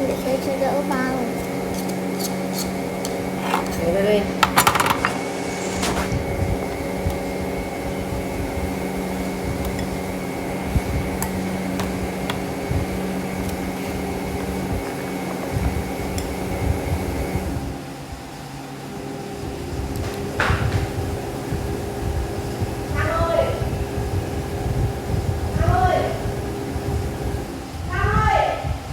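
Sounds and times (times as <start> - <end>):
appliance motor humming: 0.0 - 28.9.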